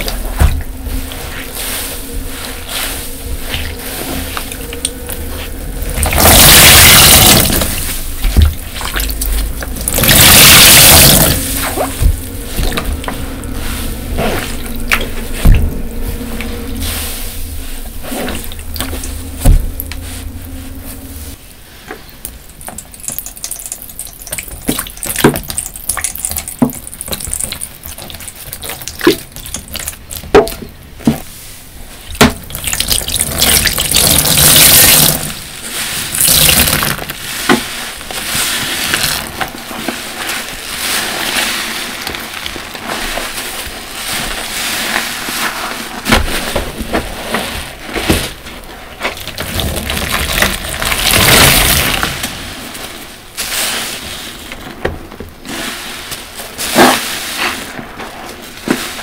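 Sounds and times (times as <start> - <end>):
sponges squelching in water: 0.0 - 21.2, 22.0 - 31.4, 32.0 - 59.0.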